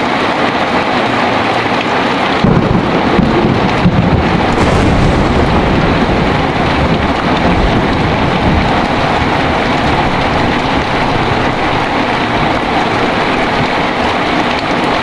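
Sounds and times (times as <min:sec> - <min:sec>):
heavy rain downpour: 0:00.0 - 0:15.0
low thunder rumble: 0:02.4 - 0:15.0.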